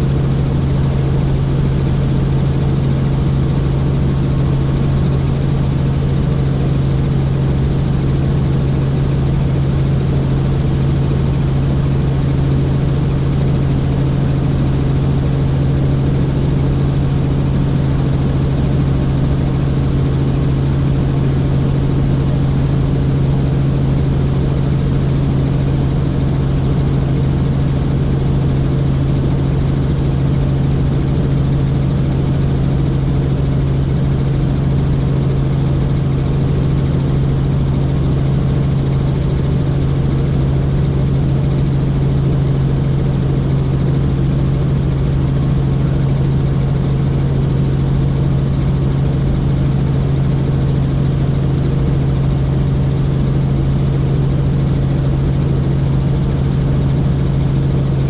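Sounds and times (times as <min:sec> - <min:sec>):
helicopter drone: 0:00.0 - 0:58.0.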